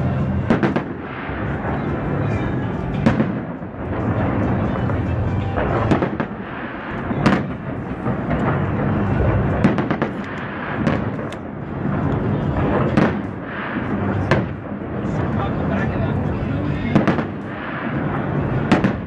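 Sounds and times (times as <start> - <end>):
fireworks booming overhead: 0.0 - 19.0
sharp fireworks bangs: 0.0 - 19.0.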